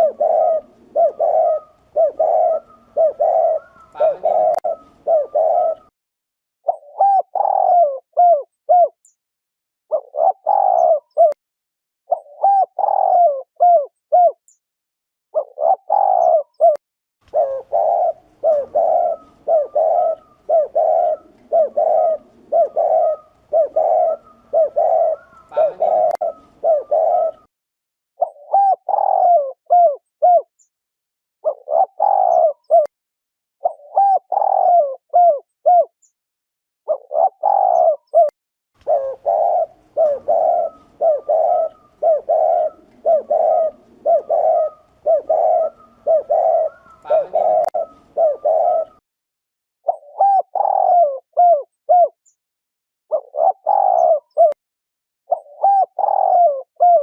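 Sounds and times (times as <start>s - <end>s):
dove cooing: 0.0s - 5.9s, 6.7s - 9.0s, 9.9s - 11.4s, 12.1s - 14.4s, 15.4s - 27.5s, 28.2s - 30.5s, 31.4s - 32.9s, 33.6s - 35.9s, 36.9s - 49.0s, 49.9s - 52.2s, 53.1s - 54.6s, 55.3s - 57.0s.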